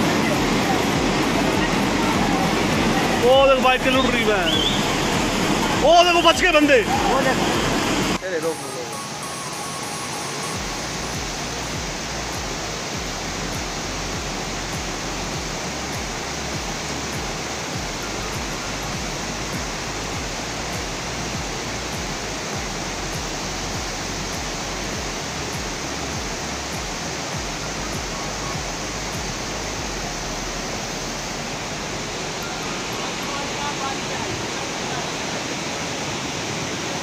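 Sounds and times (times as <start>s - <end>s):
floodwater rushing down street: 0.0s - 37.0s.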